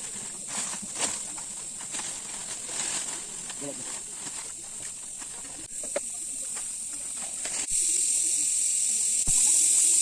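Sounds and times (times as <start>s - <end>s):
high-pitched hiss: 0.0s - 10.0s.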